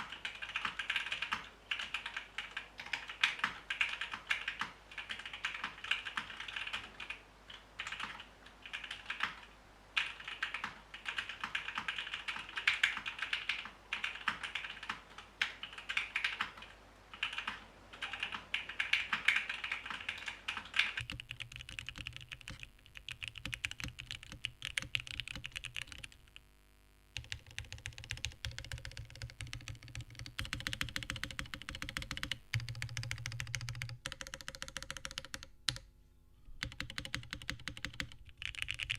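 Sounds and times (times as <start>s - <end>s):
typing on mechanical keyboard: 0.0s - 26.2s, 27.2s - 35.9s, 36.6s - 38.9s.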